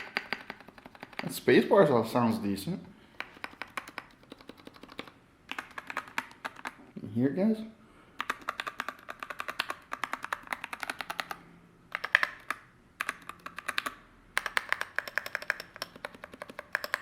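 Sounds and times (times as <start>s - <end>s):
fast typing on mechanical keyboard: 0.0s - 1.3s, 3.2s - 6.8s, 8.2s - 17.0s.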